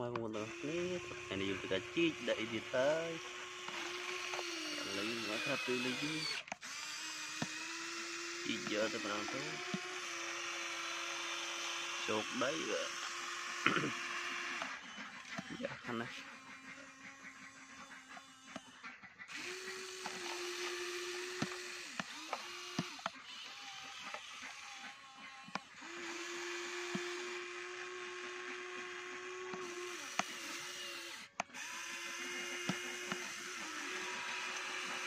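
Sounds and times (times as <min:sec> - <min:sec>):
small electric motors whining: 0:00.0 - 0:35.0
sharp clicks: 0:02.0 - 0:12.2, 0:12.9 - 0:15.7, 0:18.1 - 0:27.5, 0:28.8 - 0:35.0.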